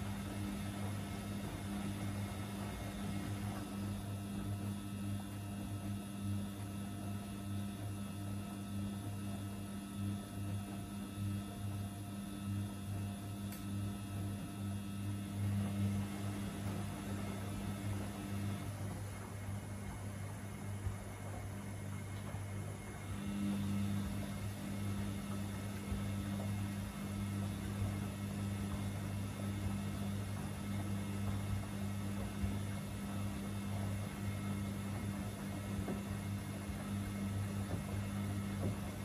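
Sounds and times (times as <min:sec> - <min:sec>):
washing machine motor hum: 0:00.0 - 0:39.0.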